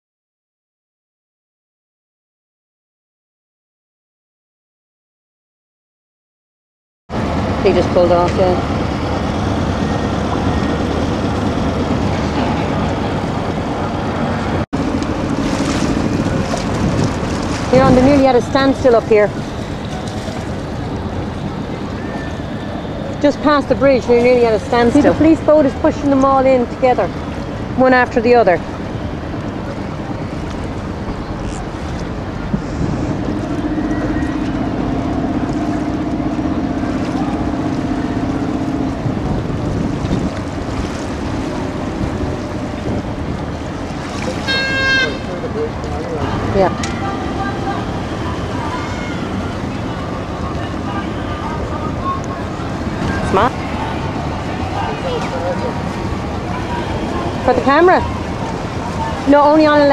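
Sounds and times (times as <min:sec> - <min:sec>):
boat engine humming: 0:07.1 - 0:59.9
water noise: 0:07.1 - 0:59.9
wind buffeting microphone: 0:07.1 - 0:59.9.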